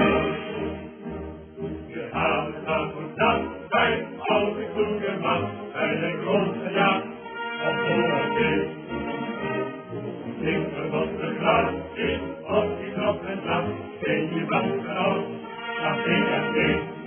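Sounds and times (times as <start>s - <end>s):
background music: 0.0s - 17.0s
chanted singing: 1.9s - 9.0s, 10.4s - 17.0s.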